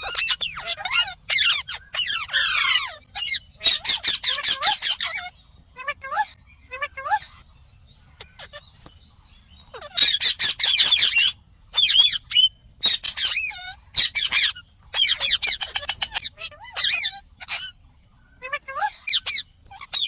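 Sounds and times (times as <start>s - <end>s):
parakeet calling: 0.0s - 8.9s, 9.5s - 20.0s.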